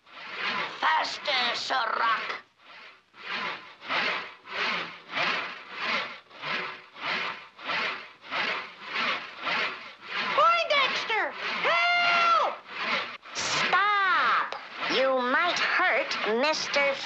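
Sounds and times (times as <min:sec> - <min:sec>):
saw cutting through wood: 0:00.0 - 0:17.0.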